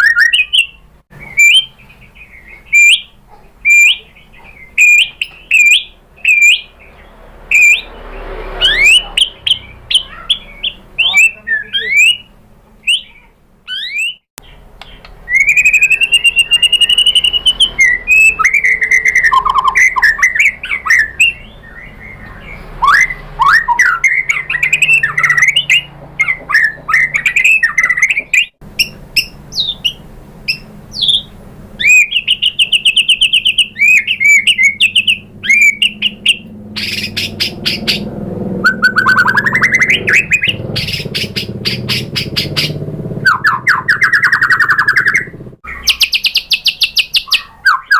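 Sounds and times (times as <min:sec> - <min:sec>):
songbird singing whistled phrases: 0:00.0 - 0:07.9, 0:08.6 - 0:47.9.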